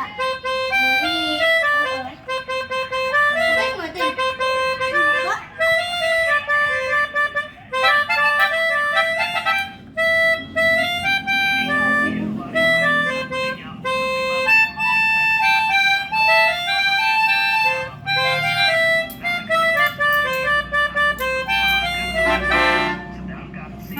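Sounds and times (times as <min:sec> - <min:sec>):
melodica playing a melody: 0:00.0 - 0:23.8.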